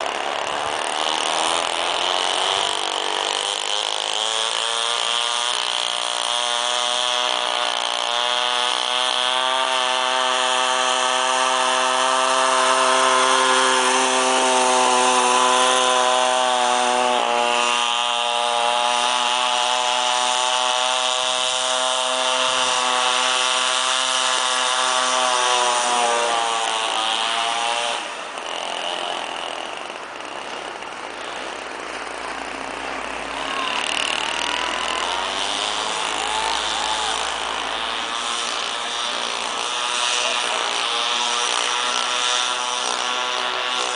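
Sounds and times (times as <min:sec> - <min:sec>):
two-stroke engine revving: 0:00.0 - 0:43.9.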